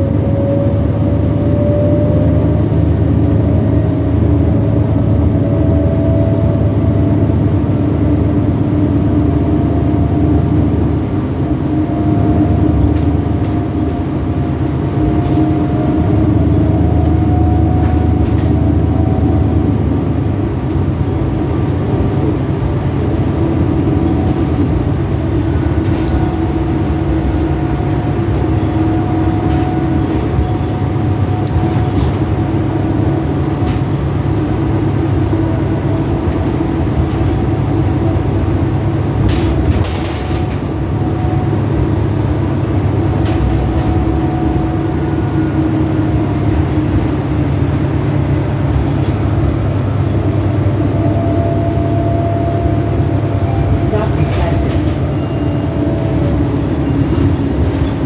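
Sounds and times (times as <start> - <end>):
bus drive drone: 0.0 - 58.0
whining drive tones: 0.0 - 58.0.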